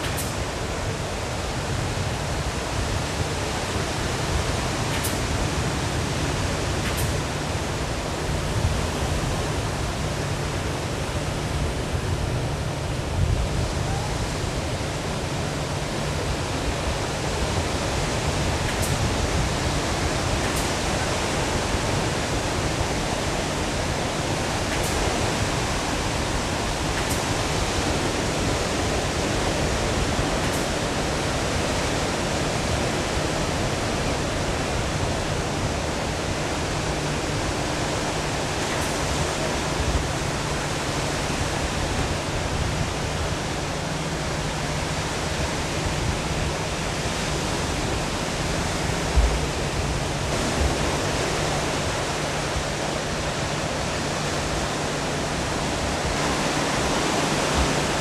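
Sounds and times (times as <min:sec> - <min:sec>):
ocean surf: 0:00.0 - 0:58.0
wind on microphone: 0:00.0 - 0:58.0.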